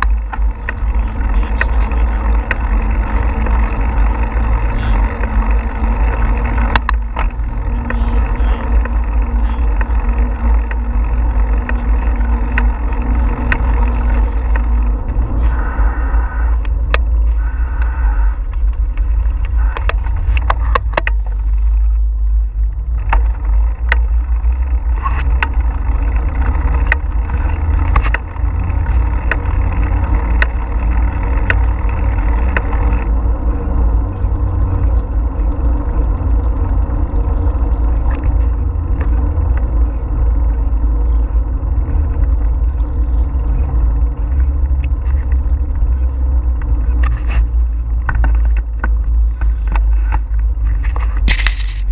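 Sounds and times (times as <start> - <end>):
sharp clicks and rattles: 0.0 - 51.9
tyres rolling on pavement: 0.0 - 51.9.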